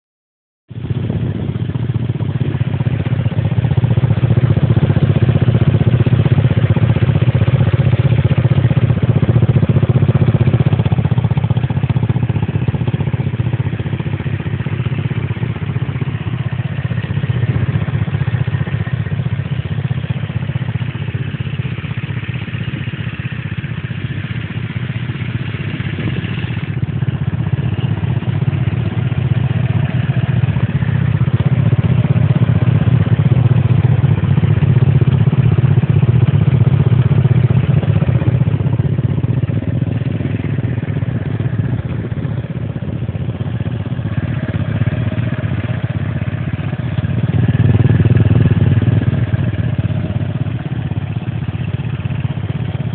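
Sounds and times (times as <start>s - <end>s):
scooter engine running: 0.8s - 52.9s.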